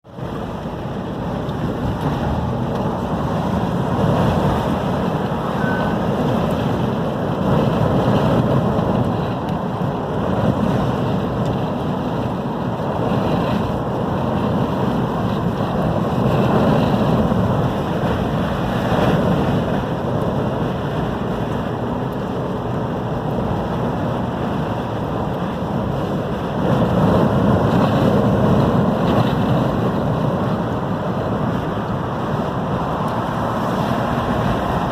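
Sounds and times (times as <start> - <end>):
heavy surf: 0.0 - 34.9
wind buffeting microphone: 0.0 - 34.9.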